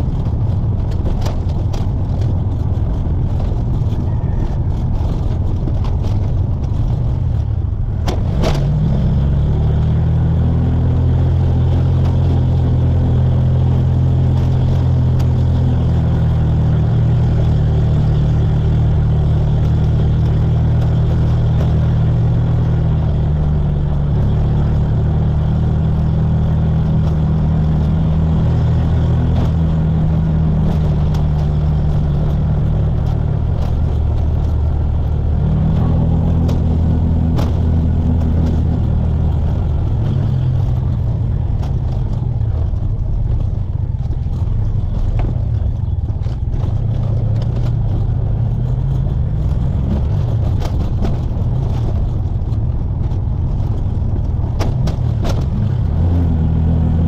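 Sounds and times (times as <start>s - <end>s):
auto rickshaw engine droning: 0.0s - 57.0s
road noise: 0.0s - 57.0s.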